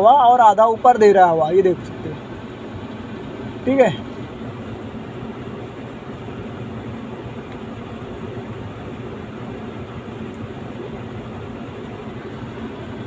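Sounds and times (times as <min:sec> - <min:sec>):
car blower fan air rushing: 0:00.0 - 0:13.0.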